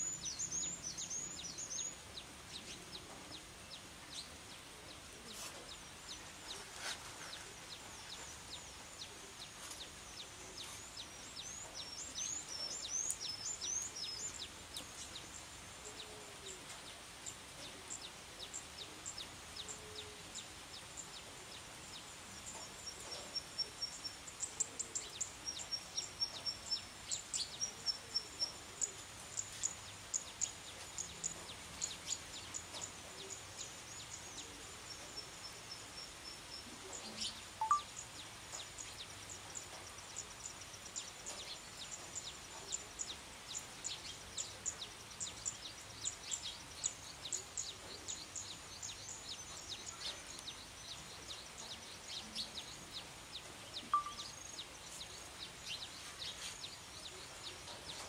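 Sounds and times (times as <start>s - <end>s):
light rain hissing: 0.0s - 58.0s
small birds chirping: 0.0s - 58.0s.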